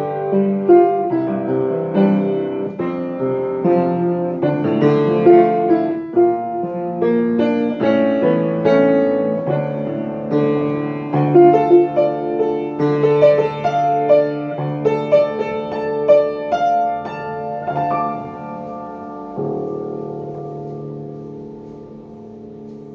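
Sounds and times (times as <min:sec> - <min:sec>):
solo piano melody: 0:00.0 - 0:22.9.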